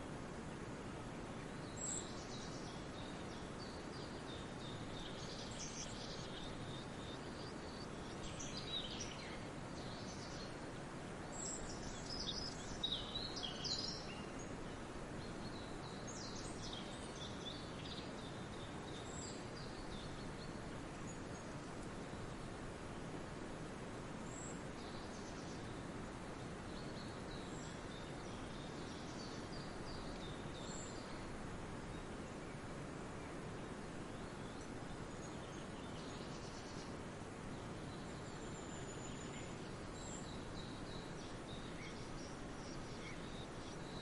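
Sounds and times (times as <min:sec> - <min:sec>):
outdoor background hiss: 0:00.0 - 0:44.0.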